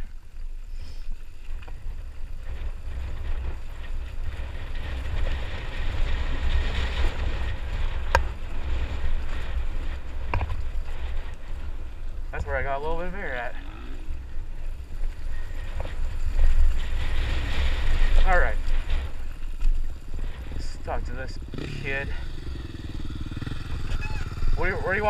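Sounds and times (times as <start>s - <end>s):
wind buffeting microphone: 1.3s - 25.0s.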